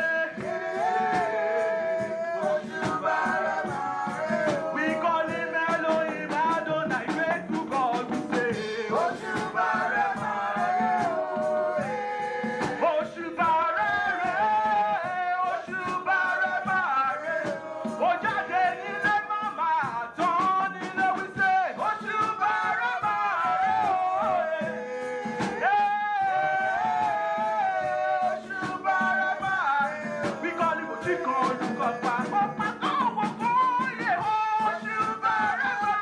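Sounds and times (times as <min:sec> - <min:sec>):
people singing praise song: 0:00.0 - 0:36.0
rhythmic percussion with shakers: 0:00.0 - 0:36.0.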